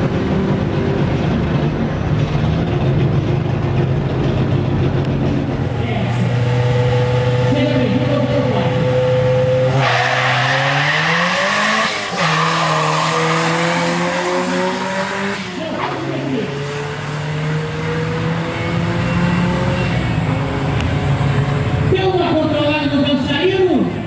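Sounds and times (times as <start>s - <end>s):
pickup engine revving and accelerating: 0.0s - 22.1s.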